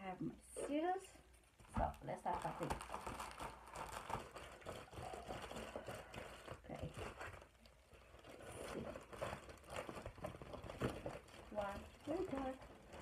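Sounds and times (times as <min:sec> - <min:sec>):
plastic envelope crinkling: 0:01.3 - 0:13.0.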